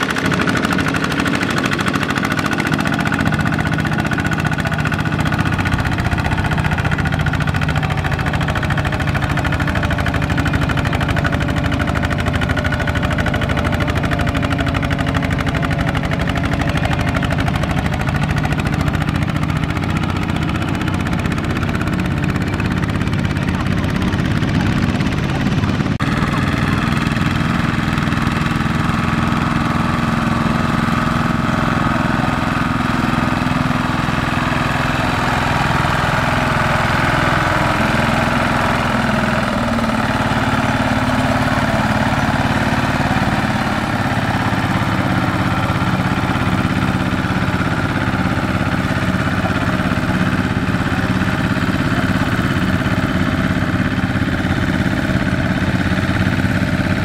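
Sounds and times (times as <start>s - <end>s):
diesel engine running loudly: 0.0s - 57.0s.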